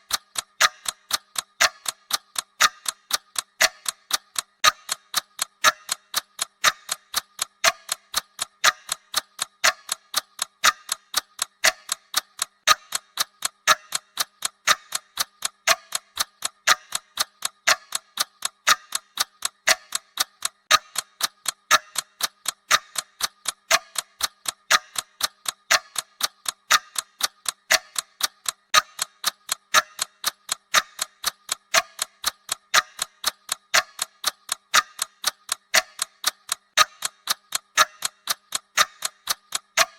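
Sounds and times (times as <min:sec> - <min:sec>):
timer ticking: 0:00.0 - 0:39.9.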